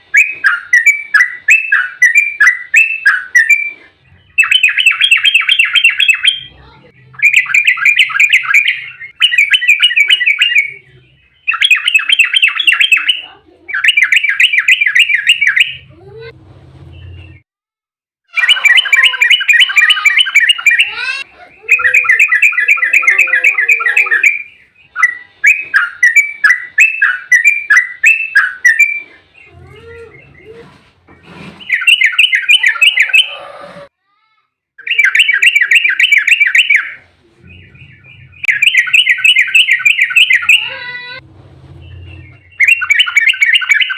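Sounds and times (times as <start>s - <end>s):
bird fast chattering song: 0.1s - 15.9s, 18.3s - 30.6s, 31.6s - 33.4s, 34.8s - 40.9s, 41.8s - 43.9s.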